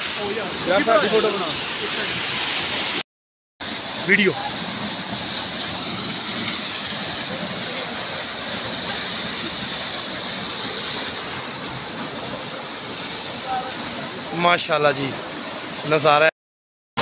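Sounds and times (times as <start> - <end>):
waterfall splashing onto stones: 0.0 - 3.0, 3.6 - 16.3.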